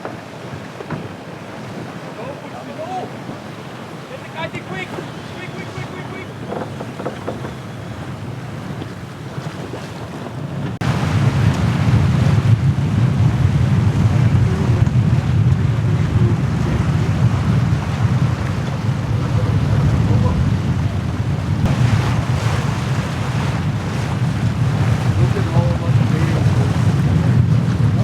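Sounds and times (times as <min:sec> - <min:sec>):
water rushing past hull: 0:00.0 - 0:28.0
wind buffeting microphone: 0:00.0 - 0:28.0.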